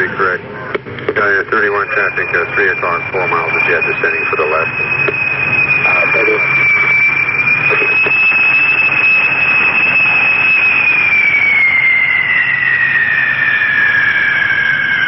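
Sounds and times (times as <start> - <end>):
jet engines roaring and whining: 0.0 - 15.0.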